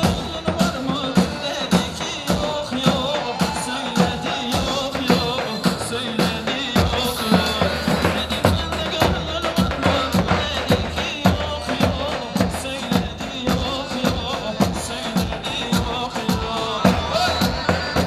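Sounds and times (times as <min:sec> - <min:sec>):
band melody line: 0:00.0 - 0:18.0
driving drum beat: 0:00.0 - 0:18.0.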